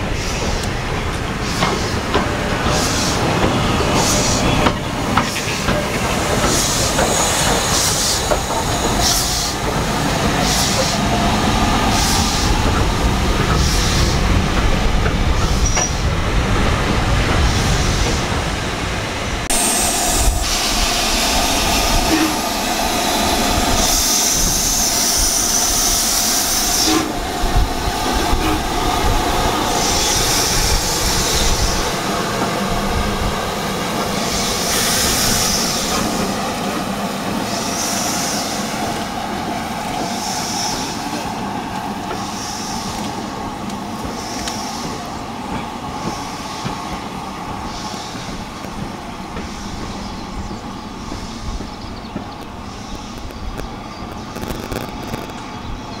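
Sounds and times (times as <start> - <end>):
steam locomotive exhaust chuffs: 0.0 - 16.4, 19.5 - 55.4
steam hissing: 0.0 - 55.4.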